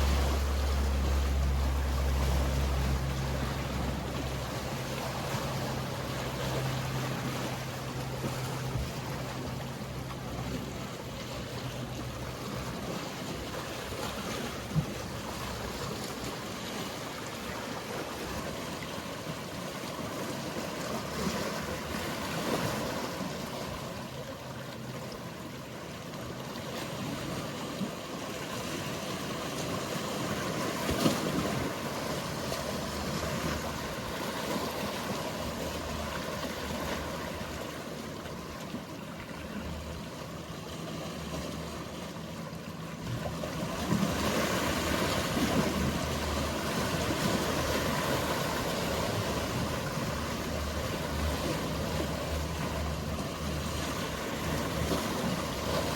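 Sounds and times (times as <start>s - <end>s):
boat engine humming: 0.0s - 55.9s
sea waves washing: 0.0s - 55.9s.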